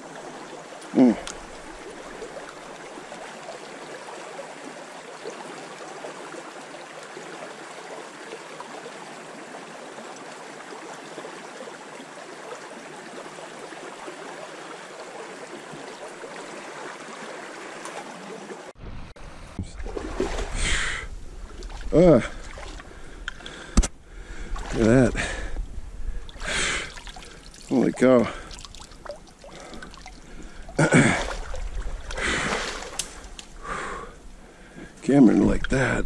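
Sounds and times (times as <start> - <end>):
creek water rushing and trickling: 0.0 - 36.0.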